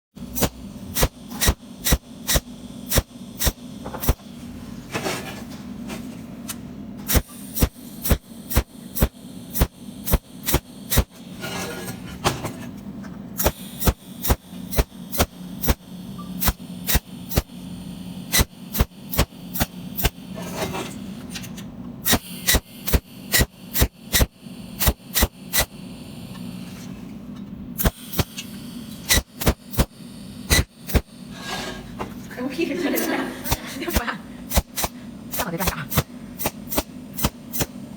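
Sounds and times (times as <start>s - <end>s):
welding electrical hum: 0.2s - 37.9s
welding clicks: 0.3s - 4.2s, 6.5s - 11.2s, 13.4s - 26.6s, 27.8s - 31.3s, 32.6s - 37.8s.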